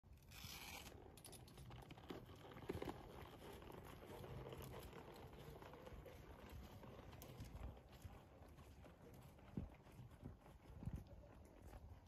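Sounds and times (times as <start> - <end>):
horse hoofbeats on sand: 2.0 - 12.0.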